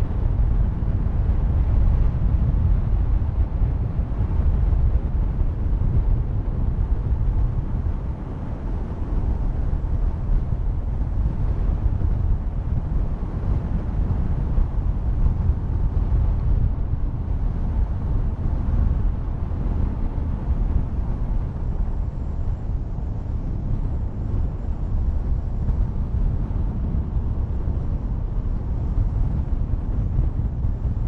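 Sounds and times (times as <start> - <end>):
wind rush on microphone: 0.0 - 31.0.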